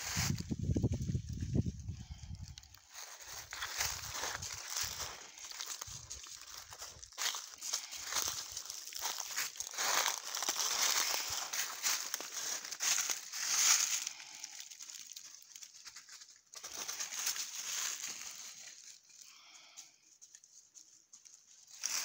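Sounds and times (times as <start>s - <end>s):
leaves crackling underfoot: 0.0s - 22.0s.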